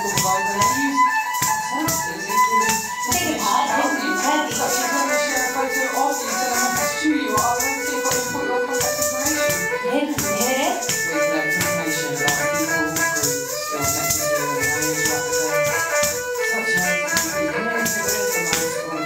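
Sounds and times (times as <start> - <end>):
ankle bells jingling: 0.0 - 19.0
bowed string instrument melody: 0.0 - 19.0.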